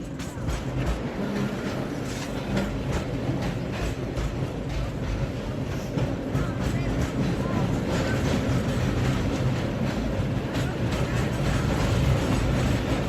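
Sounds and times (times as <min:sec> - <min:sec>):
cable car rattling on track: 0:00.0 - 0:13.0.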